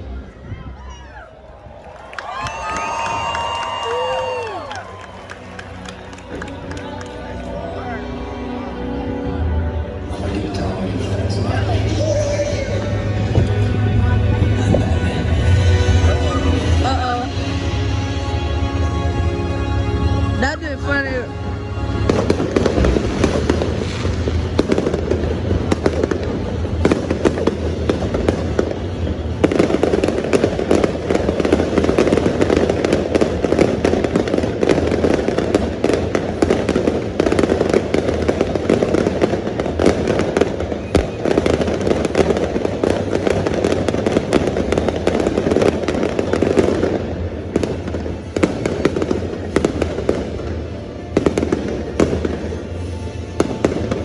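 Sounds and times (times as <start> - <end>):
music playing: 0.0 - 54.0
fireworks bangs and crackles: 1.6 - 8.0, 9.4 - 18.1, 20.4 - 54.0.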